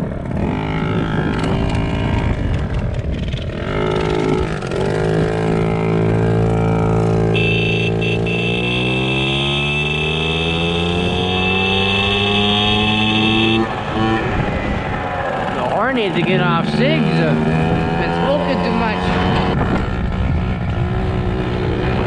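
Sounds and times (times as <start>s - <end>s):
small bike engine revving: 0.3s - 14.5s, 15.3s - 22.0s.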